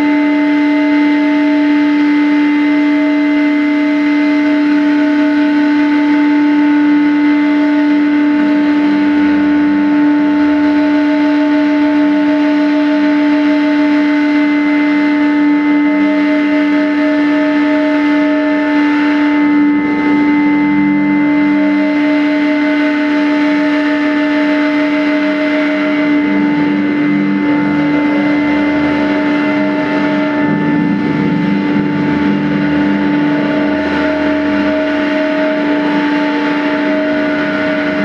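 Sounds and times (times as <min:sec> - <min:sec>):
high pulsing tone: 0:00.0 - 0:38.0
loud drone music: 0:00.0 - 0:38.0.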